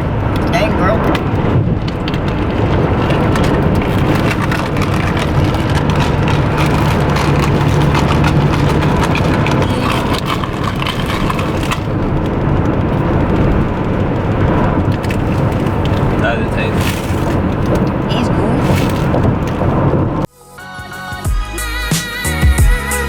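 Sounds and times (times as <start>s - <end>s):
tyre and engine rumble: 0.0s - 20.3s.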